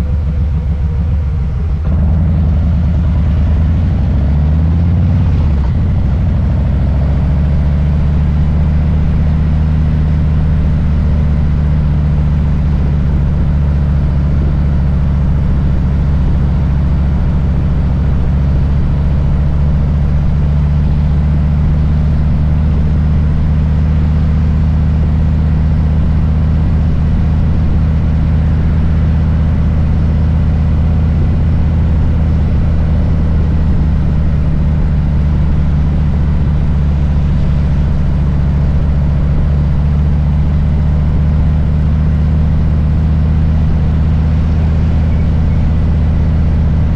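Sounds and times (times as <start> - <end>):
motorcycle engine rumbling: 0.0 - 46.9.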